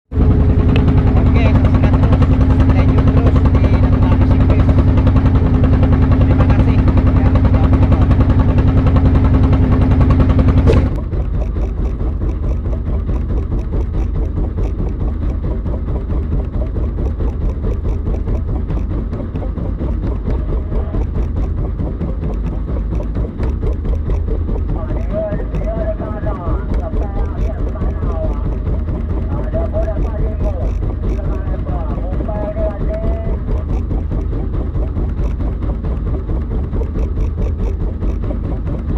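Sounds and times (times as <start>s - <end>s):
boat engine humming: 0.0s - 38.9s
engine rattling with ticks: 0.0s - 38.9s.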